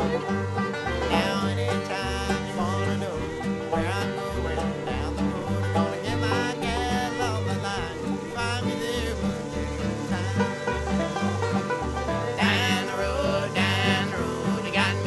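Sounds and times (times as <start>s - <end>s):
upbeat bluegrass music: 0.0s - 15.0s.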